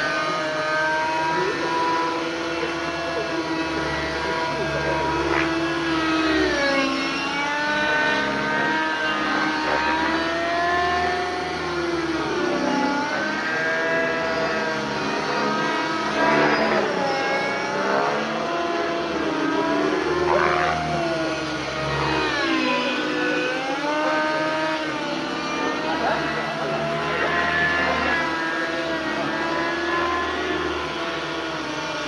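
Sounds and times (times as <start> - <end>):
model helicopter engine and rotors: 0.0 - 32.0.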